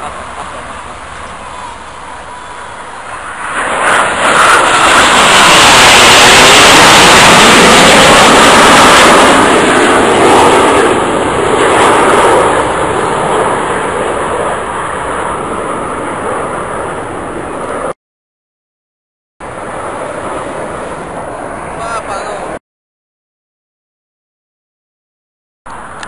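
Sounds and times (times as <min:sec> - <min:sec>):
jets flying overhead: 0:00.0 - 0:18.0, 0:19.4 - 0:22.6.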